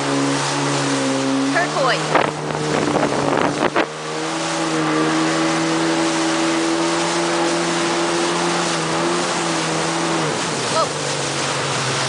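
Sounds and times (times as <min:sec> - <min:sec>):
jet ski engine droning: 0:00.0 - 0:12.0.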